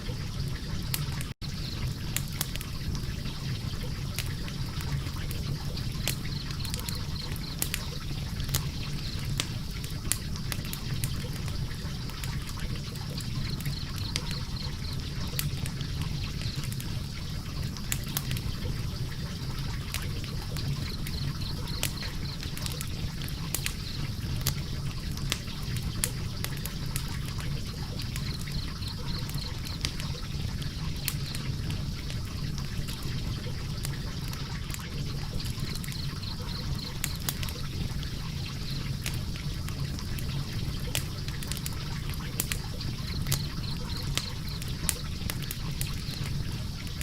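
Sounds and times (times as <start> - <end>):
burning logs crackling: 0.0 - 47.0
fire flames rumbling: 0.0 - 47.0.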